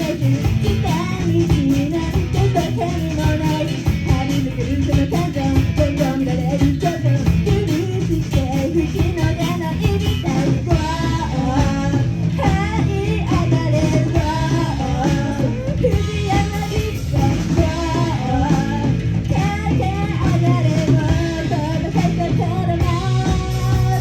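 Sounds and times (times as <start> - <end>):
lead vocal singing: 0.0 - 24.0
live rock band: 0.0 - 24.0.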